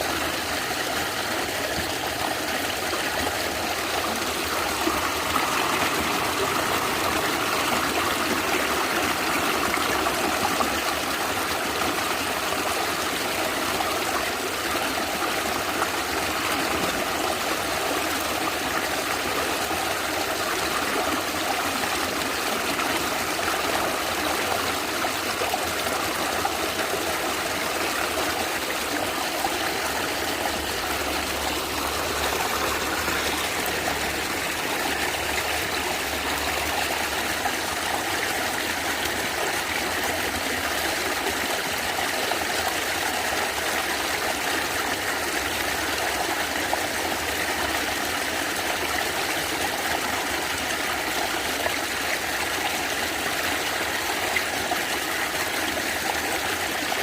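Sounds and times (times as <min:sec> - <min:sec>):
stream water gurgling over rocks: 0:00.0 - 0:57.0.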